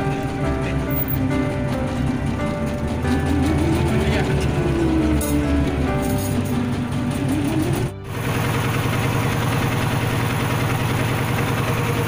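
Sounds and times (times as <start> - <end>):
boat engine running steadily: 0.0 - 12.0.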